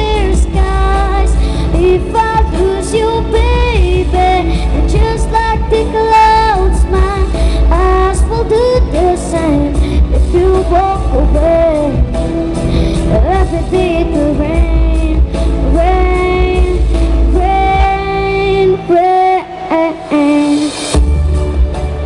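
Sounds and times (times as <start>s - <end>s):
low bass accompaniment: 0.0s - 18.5s, 21.0s - 22.0s
person singing pop melody: 0.0s - 22.0s.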